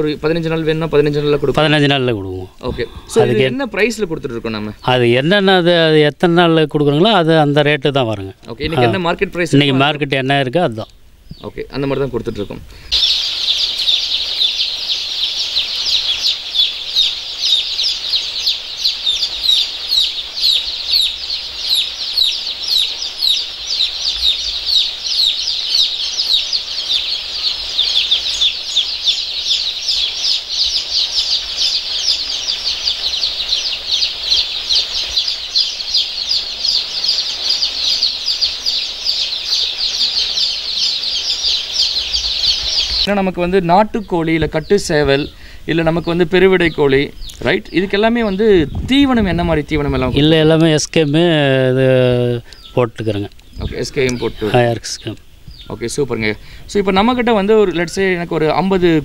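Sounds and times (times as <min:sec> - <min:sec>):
chicks peeping: 0:00.0 - 0:06.0, 0:06.8 - 0:59.0.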